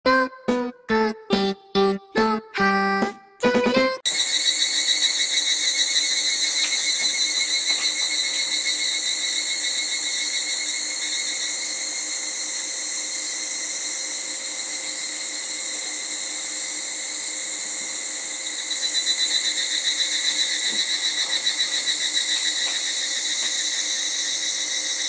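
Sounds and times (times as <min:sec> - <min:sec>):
cicadas droning: 0:04.1 - 0:25.0
rhythmic pulsing insect call: 0:04.1 - 0:25.0.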